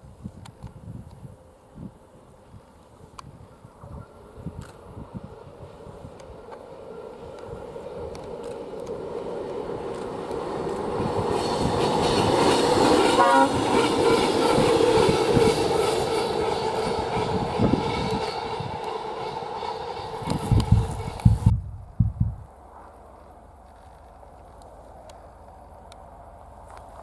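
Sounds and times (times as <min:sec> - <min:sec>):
diesel locomotive passing by: 0:00.1 - 0:27.0.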